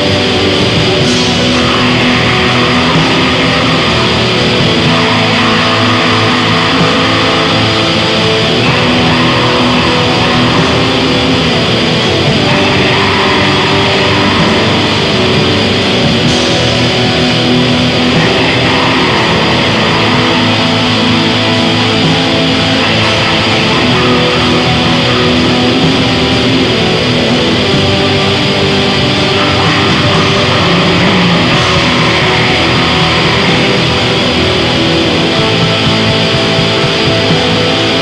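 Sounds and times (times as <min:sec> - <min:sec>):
bass: 0:00.0 - 0:38.0
distorted electric guitar: 0:00.0 - 0:38.0
drums: 0:00.0 - 0:38.0.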